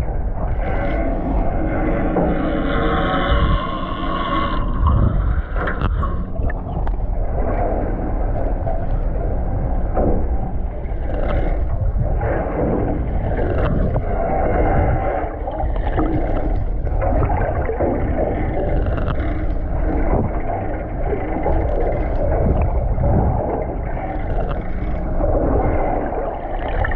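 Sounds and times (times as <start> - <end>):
water sloshing against boat hull: 0.0 - 26.9
wind on microphone: 0.0 - 26.9.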